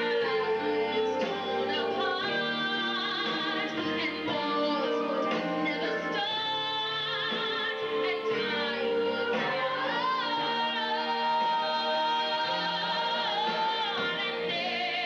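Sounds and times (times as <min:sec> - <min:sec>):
instrumental accompaniment: 0:00.0 - 0:15.0
woman singing a slow ballad: 0:00.0 - 0:15.0.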